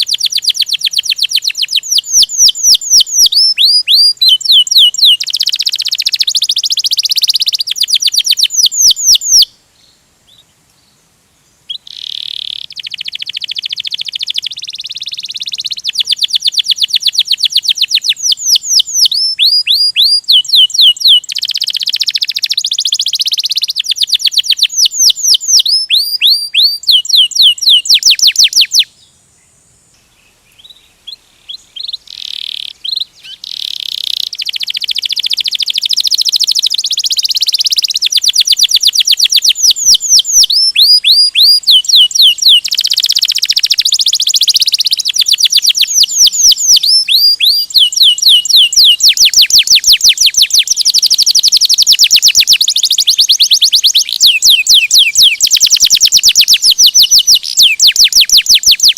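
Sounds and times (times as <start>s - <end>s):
canary singing trills: 0.0s - 11.0s, 11.6s - 58.9s.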